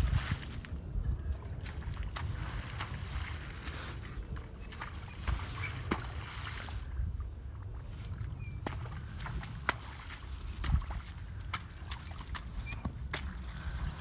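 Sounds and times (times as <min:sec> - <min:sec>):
horse hooves splashing in puddle: 0:00.0 - 0:14.0
steady low rumble: 0:00.0 - 0:14.0.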